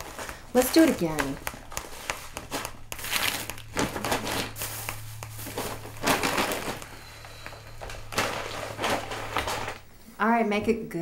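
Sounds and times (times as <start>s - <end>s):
paper bag rustling: 0.0s - 9.8s
steady low hum: 0.0s - 11.0s.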